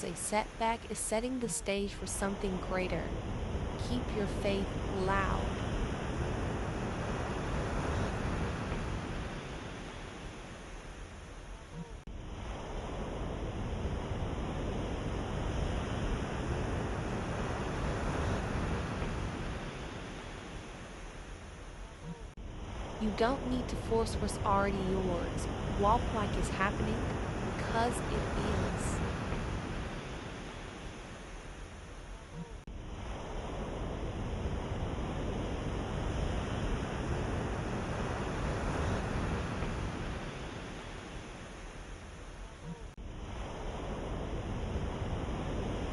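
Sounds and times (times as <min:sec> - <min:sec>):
ocean waves rushing: 0:00.0 - 0:21.8, 0:22.4 - 0:45.9.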